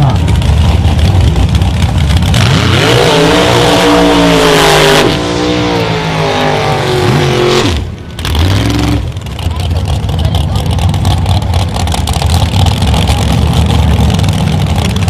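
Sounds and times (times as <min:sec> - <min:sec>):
racing engines accelerating hard: 0:00.0 - 0:15.0.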